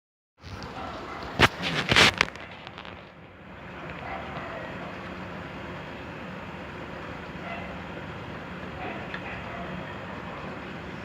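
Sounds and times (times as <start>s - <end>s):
background rumble and hiss: 0.4s - 11.0s.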